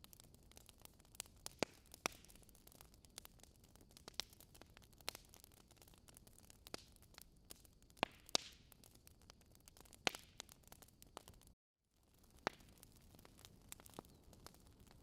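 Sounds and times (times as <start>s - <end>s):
loud pops of burning logs: 0.0s - 15.0s
wood fire crackling: 0.0s - 15.0s.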